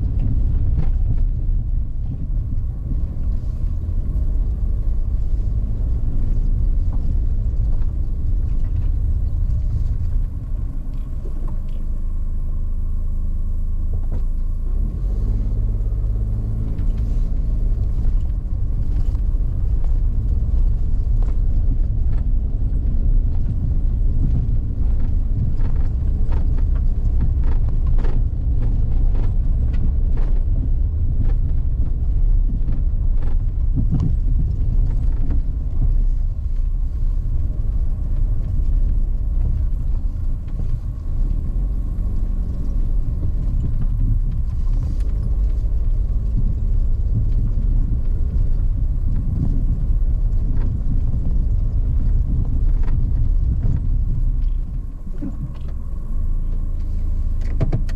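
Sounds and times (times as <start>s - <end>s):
engine and road rumble: 0.0s - 57.9s.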